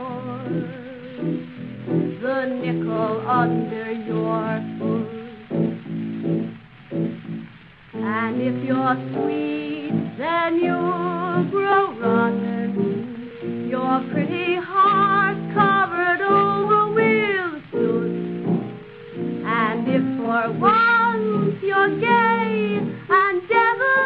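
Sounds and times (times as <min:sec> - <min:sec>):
person singing with vibrato: 0:00.0 - 0:05.7, 0:08.0 - 0:18.4, 0:19.4 - 0:24.0
piano accompaniment: 0:00.0 - 0:24.0.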